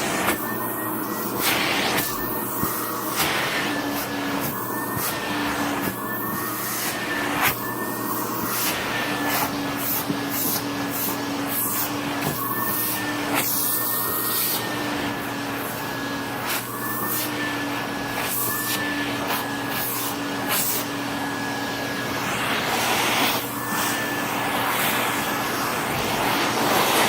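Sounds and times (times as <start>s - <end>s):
vacuum cleaner motor whine: 0.0s - 27.0s.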